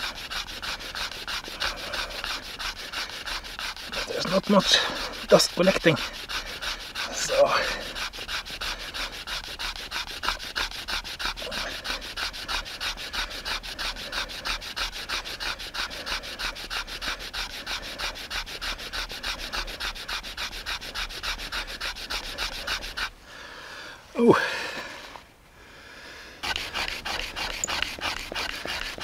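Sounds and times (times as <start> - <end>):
stick scraping in wooden groove: 0.0 - 23.1, 26.4 - 29.0.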